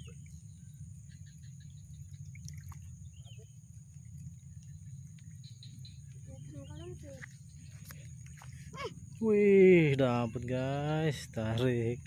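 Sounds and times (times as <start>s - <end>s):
insects droning: 0.0s - 12.0s
low steady rumble: 0.0s - 12.0s.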